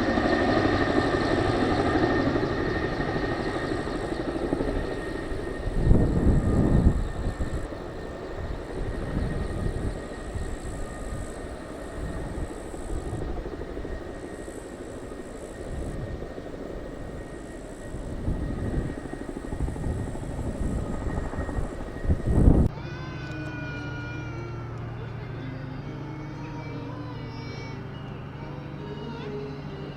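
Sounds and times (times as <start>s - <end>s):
helicopter rotor rumble: 0.0s - 29.9s
high turbine whine: 0.0s - 29.9s.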